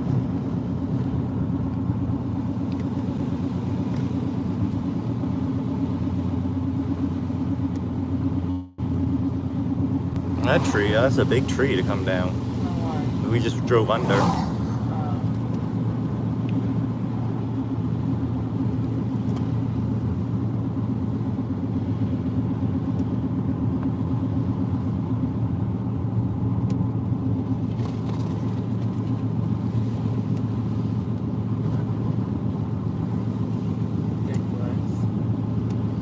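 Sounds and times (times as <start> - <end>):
car engine drone: 0.0 - 36.0
tyres on wet road: 0.0 - 36.0.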